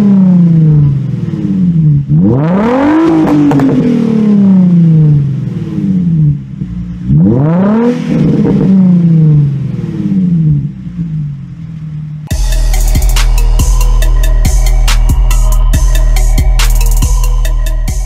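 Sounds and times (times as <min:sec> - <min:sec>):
car engine revving: 0:00.0 - 0:18.0
exhaust crackles: 0:00.0 - 0:18.0.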